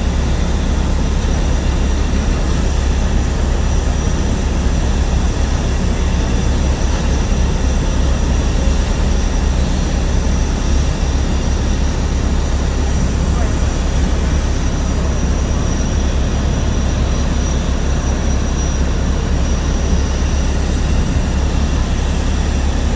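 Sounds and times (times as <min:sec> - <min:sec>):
aircraft engines rumbling: 0:00.0 - 0:22.9.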